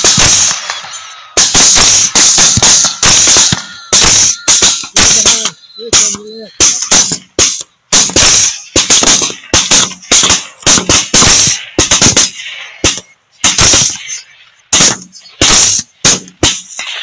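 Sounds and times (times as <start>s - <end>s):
rifle gunfire: 0.0s - 17.0s.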